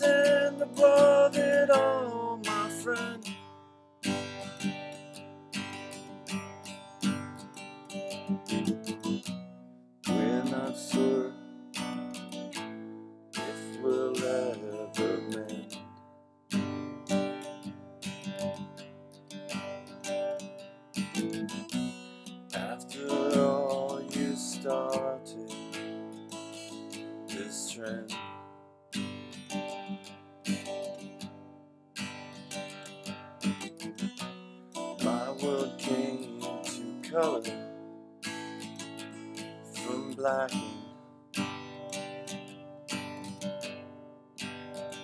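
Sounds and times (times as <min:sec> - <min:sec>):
acoustic guitar strumming: 0:00.0 - 0:45.0.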